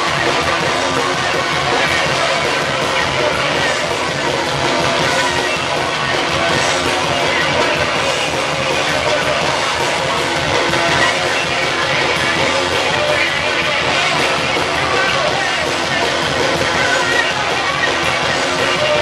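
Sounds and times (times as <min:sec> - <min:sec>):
live rock band playing loud: 0:00.0 - 0:19.0.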